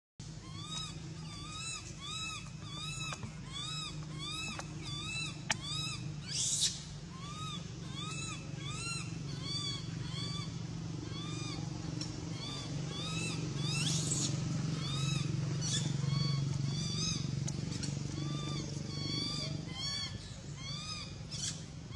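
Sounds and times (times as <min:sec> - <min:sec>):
baby monkey crying: 0:00.4 - 0:11.7, 0:12.3 - 0:21.6.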